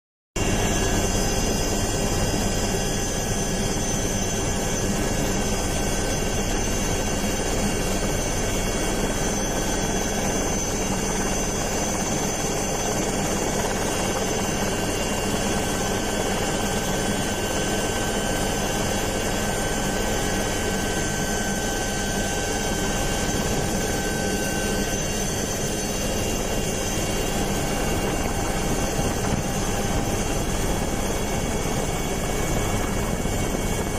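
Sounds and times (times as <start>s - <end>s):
aircraft engine and rotor noise: 0.4s - 33.9s.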